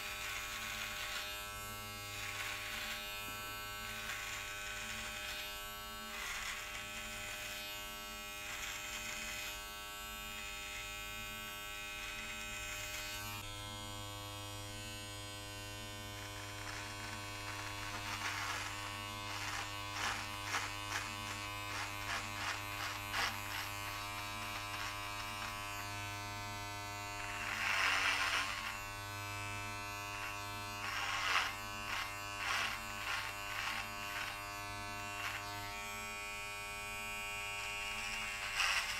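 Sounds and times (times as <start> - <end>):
hair trimmer buzzing: 0.0 - 38.9.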